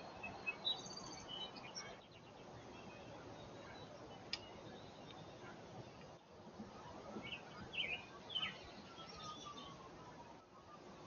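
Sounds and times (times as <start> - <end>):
outdoor background hiss: 0.0 - 11.0
songbird chirps: 0.0 - 11.0.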